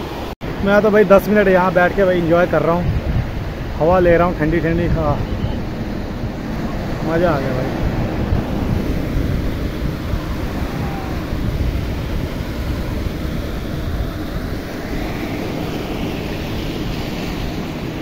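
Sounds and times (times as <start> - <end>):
sea waves washing ashore: 0.0 - 18.0
wind rumbling on microphone: 0.0 - 18.0.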